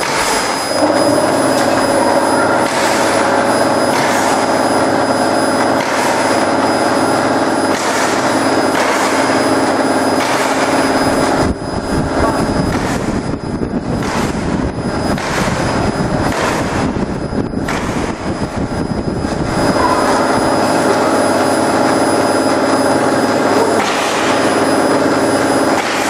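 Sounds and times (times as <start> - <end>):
laser engraver humming with whine: 0.0 - 26.0.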